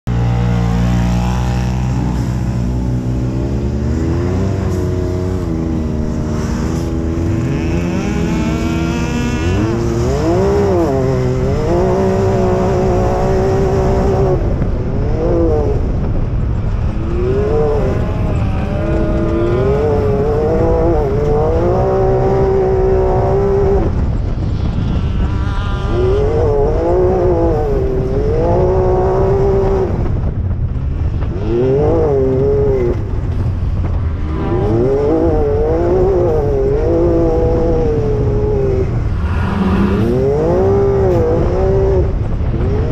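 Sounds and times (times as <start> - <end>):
engine revving: 0.0 - 42.9
wind on microphone: 0.1 - 42.9.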